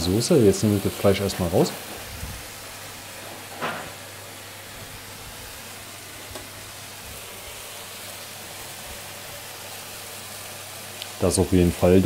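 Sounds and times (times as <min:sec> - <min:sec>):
mushrooms sizzling in a pan: 0:00.0 - 0:12.0.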